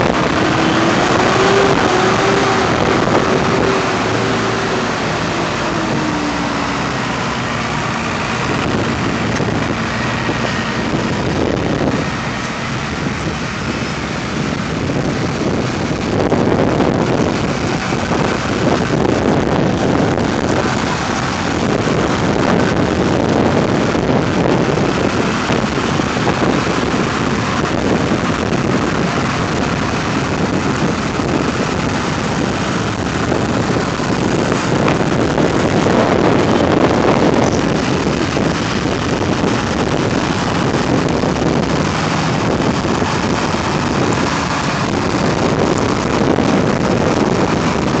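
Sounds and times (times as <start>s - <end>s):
tractor engines running: 0.0s - 48.0s
wind buffeting microphone: 0.0s - 48.0s.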